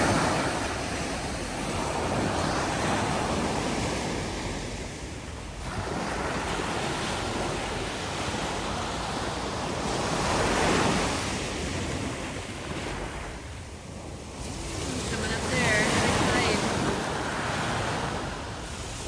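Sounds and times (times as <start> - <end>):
ocean waves washing in: 0.0 - 19.0
wind on microphone: 0.0 - 19.0.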